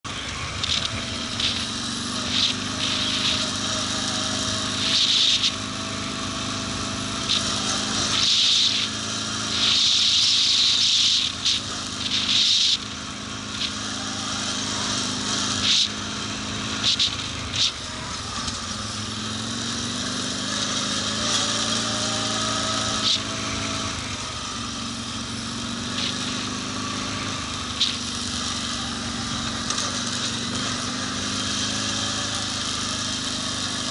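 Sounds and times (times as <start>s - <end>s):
quad bike engine running: 0.0s - 33.9s
rattling hiss over bumps: 0.1s - 33.9s.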